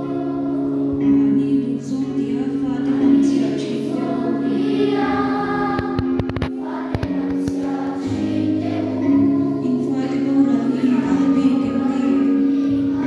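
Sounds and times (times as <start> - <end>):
children singing a hymn: 0.0 - 13.0.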